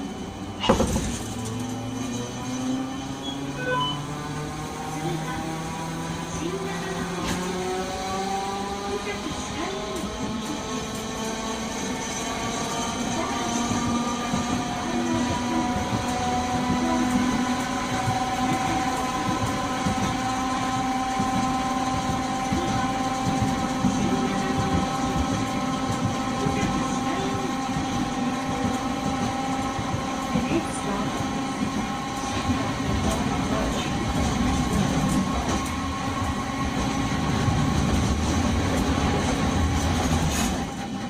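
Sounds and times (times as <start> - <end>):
tram motor whine: 0.0 - 41.0
wheels rumbling on rails: 0.0 - 41.0.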